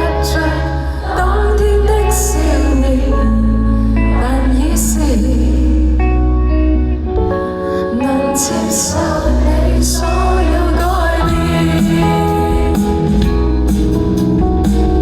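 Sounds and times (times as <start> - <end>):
person singing: 0.0 - 6.1, 7.4 - 13.6
indie pop band playing live: 0.0 - 15.0.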